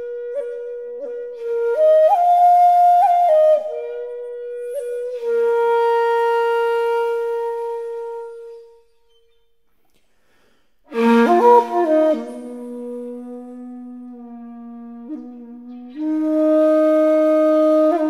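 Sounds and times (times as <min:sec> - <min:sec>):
bamboo flute playing: 0:00.0 - 0:09.5, 0:10.9 - 0:18.0.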